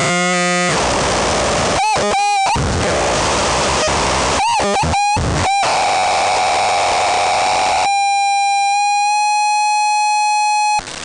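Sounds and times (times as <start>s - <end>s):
buzzing electronic tone: 0.0s - 11.0s
dense electronic noise: 0.0s - 11.0s.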